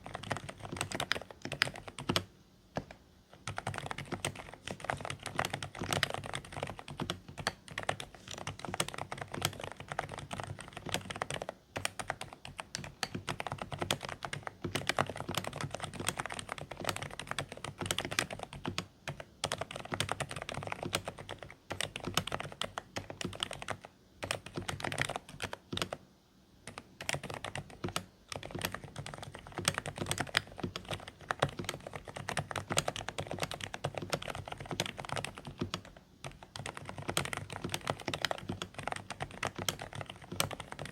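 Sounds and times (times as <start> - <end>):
quiet keyboard typing: 0.0 - 40.9.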